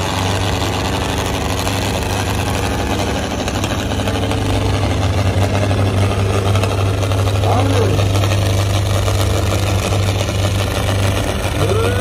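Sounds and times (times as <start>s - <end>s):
tractor diesel engines droning: 0.0s - 12.0s.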